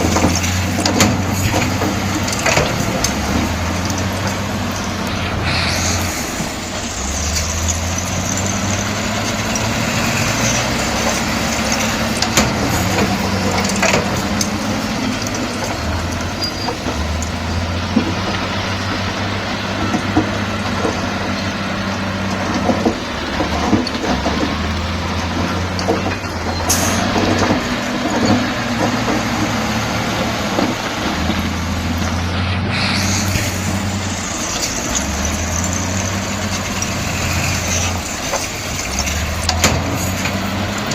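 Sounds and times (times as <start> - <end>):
metal clanks and knocks: 0.0 - 32.2, 33.2 - 40.9
heavy diesel engine under load: 0.0 - 40.9.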